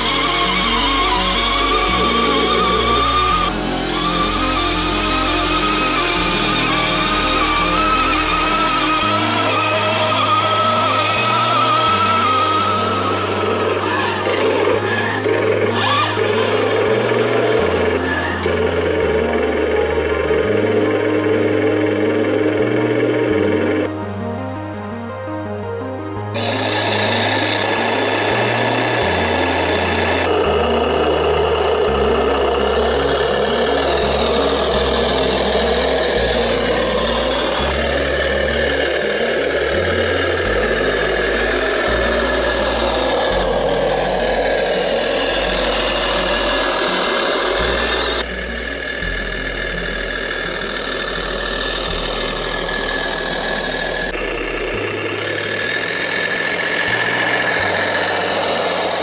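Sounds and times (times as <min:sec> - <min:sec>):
deep bass line: 0:00.0 - 0:59.0
hissy synth layer with sweeps: 0:00.0 - 0:59.0.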